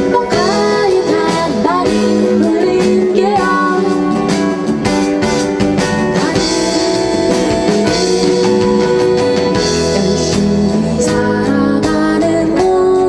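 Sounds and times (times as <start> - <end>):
guitar: 0.0 - 13.0
steady drum beat: 0.0 - 13.0.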